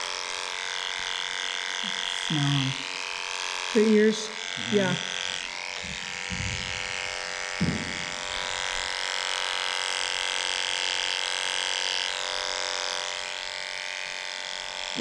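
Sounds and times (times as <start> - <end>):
electric clippers buzzing: 0.0 - 15.0.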